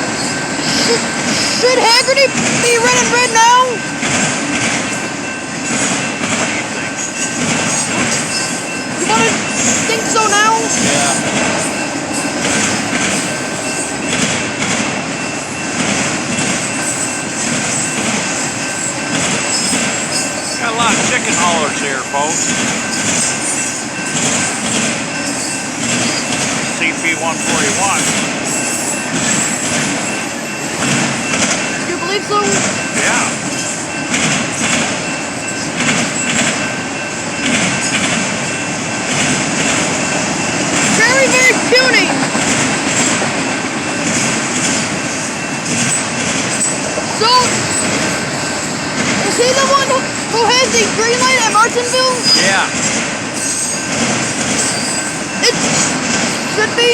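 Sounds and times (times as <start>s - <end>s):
steel wheels rolling on rail: 0.0s - 56.9s.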